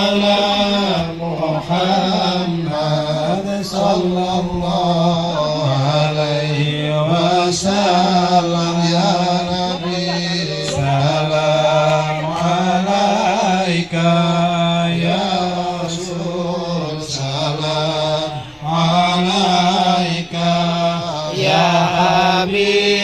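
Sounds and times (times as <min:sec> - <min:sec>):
devotional chant with wavering melody: 0:00.0 - 0:23.0.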